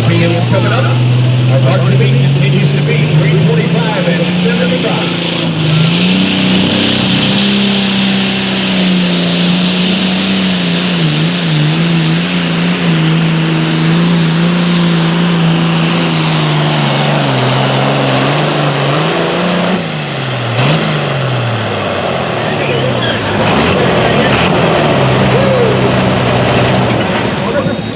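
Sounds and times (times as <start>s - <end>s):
tractor diesel engine under load: 0.0s - 27.9s.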